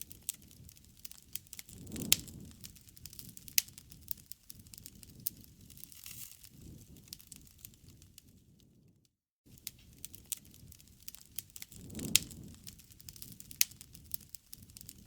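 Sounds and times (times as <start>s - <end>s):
campfire flame rushing: 0.0s - 8.8s, 9.5s - 15.0s
burning wood crackling and popping: 0.0s - 15.0s.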